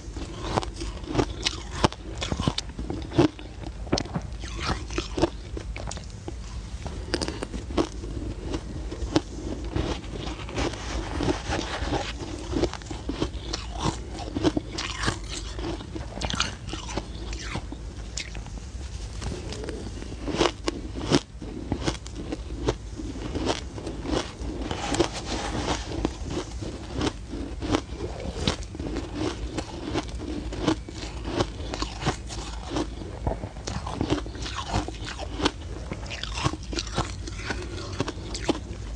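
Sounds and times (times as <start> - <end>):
chewing crunchy ice: 0.0 - 18.6, 19.3 - 38.9.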